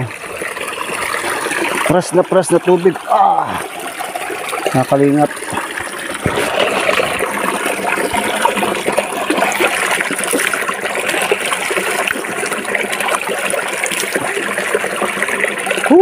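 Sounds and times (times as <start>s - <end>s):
stream water trickling over rocks: 0.0s - 16.0s.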